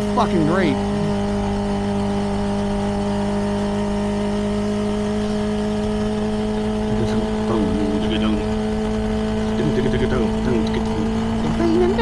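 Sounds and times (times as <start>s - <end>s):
motorcycle engine cruising: 0.0s - 12.0s
road and wind rumble: 0.0s - 12.0s.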